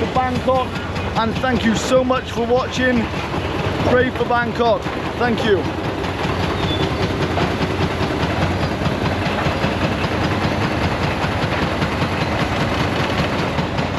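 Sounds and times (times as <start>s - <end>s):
machine running with fast clatter: 0.0s - 13.9s.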